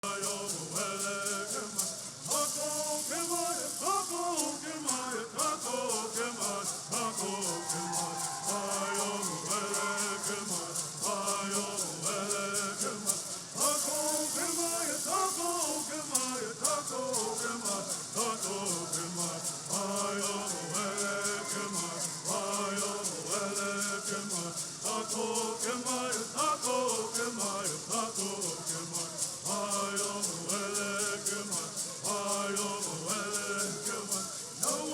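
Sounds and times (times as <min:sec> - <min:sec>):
gourd rattles shaking: 0:00.0 - 0:34.9
men singing in unison: 0:00.0 - 0:34.9.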